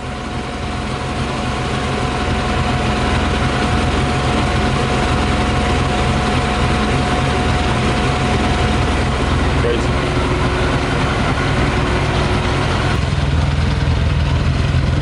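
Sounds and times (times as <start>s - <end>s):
motorcycle engine idling: 0.0s - 15.0s
thin steady whine: 0.0s - 15.0s.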